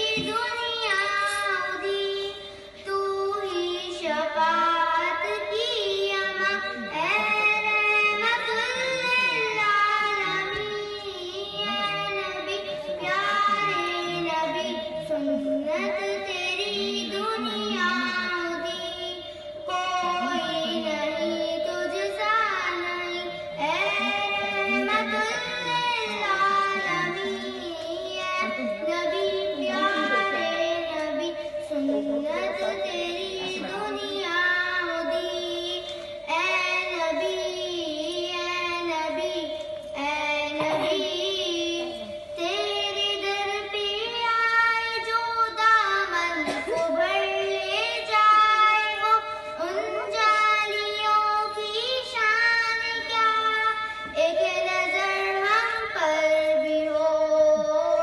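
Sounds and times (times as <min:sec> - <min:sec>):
girls singing together: 0:00.0 - 0:58.0.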